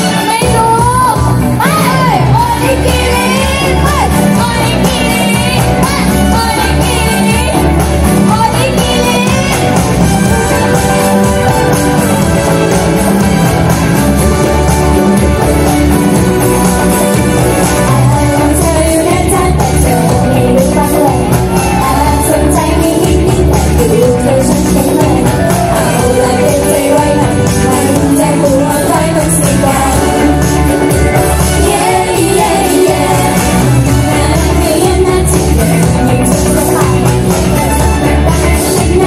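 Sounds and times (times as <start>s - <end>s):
pop song with bass beat and singing: 0.0s - 39.0s.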